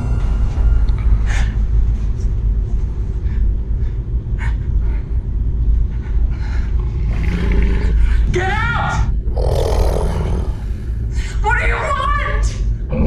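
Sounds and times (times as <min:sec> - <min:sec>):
deep low rumbling drone: 0:00.0 - 0:11.5, 0:12.5 - 0:13.0.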